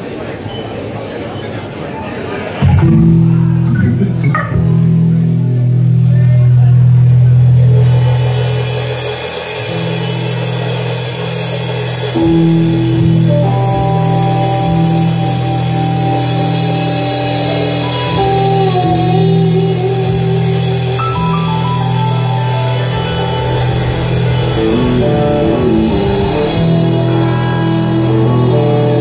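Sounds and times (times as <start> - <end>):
keyboard: 0.0 - 29.0
bass: 2.6 - 29.0
drum kit: 2.6 - 29.0
electric guitars: 2.6 - 29.0.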